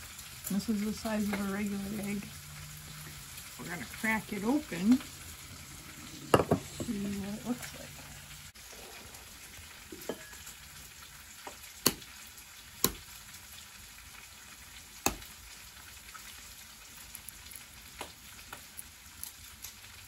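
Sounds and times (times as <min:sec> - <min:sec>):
steady hiss: 0:00.0 - 0:16.1.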